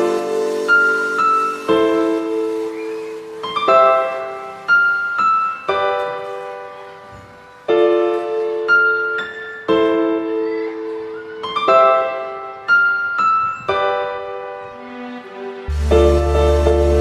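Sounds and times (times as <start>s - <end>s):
slow gentle solo piano: 0.0s - 14.8s.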